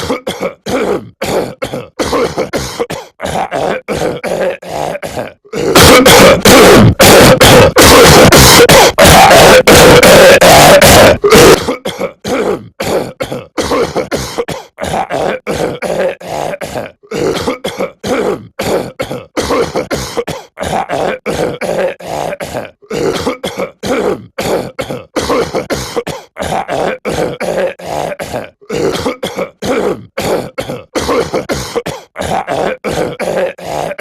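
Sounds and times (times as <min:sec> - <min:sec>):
cartoon voice coughing: 0:00.0 - 0:34.0.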